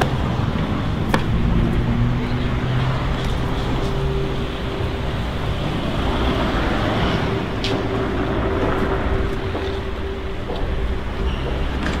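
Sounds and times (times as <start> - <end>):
low hum: 1.3 - 12.0.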